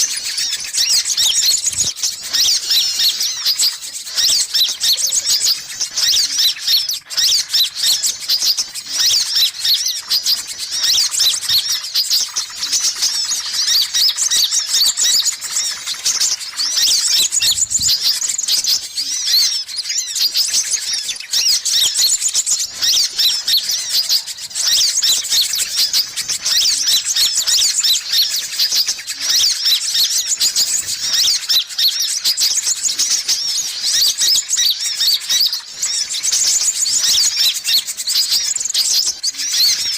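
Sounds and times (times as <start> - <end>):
birds high-pitched chirps and twitters: 0.0 - 39.9.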